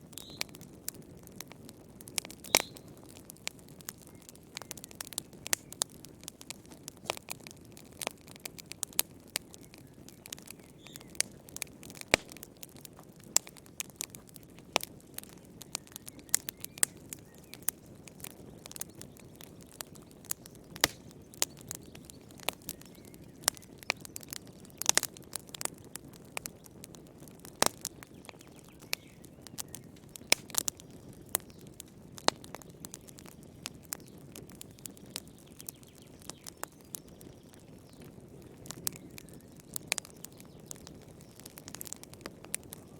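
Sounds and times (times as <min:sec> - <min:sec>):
soft hiss of flames: 0:00.0 - 0:42.9
wood fire crackling: 0:00.0 - 0:42.9.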